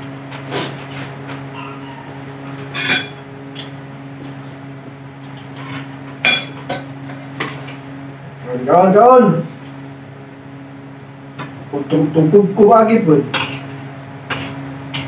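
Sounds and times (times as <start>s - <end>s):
electric fan hum: 0.0s - 15.0s.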